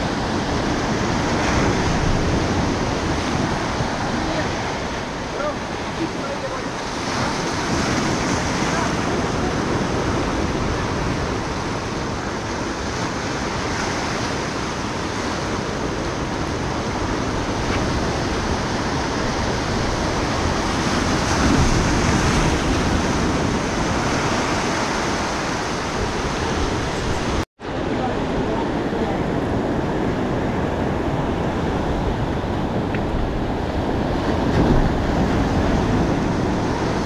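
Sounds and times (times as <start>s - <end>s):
surf breaking over rocks: 0.0s - 37.0s.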